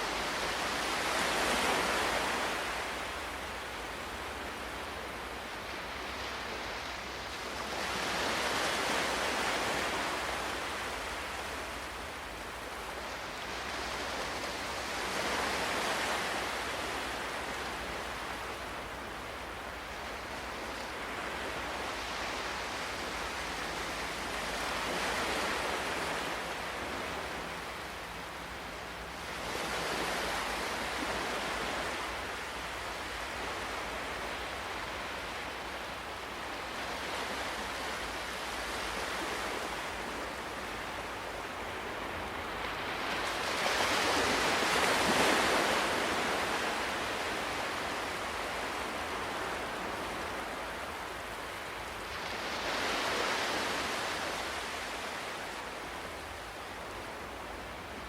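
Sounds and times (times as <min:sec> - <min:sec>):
ocean waves washing in: 0:00.0 - 0:58.0.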